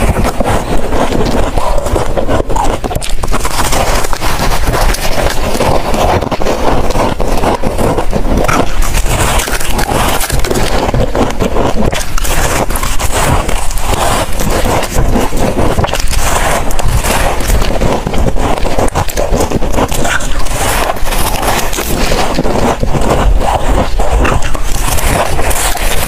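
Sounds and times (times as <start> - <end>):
ice crunching while chewed: 0.0 - 26.0.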